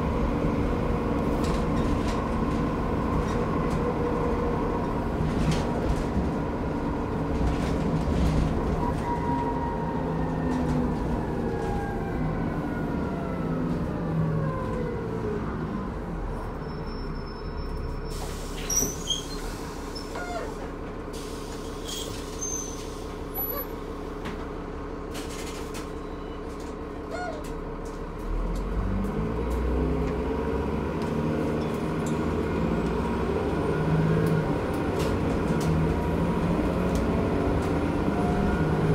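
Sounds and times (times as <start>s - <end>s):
bus engine and transmission whine: 0.0s - 38.9s.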